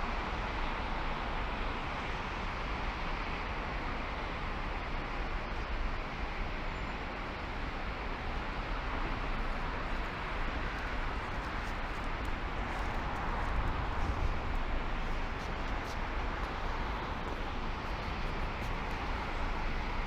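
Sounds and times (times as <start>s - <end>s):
car road and wind noise: 0.0s - 20.0s.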